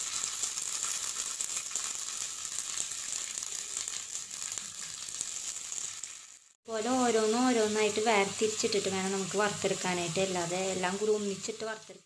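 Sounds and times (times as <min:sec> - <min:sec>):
potato slice sizzling in oil: 0:00.0 - 0:12.0.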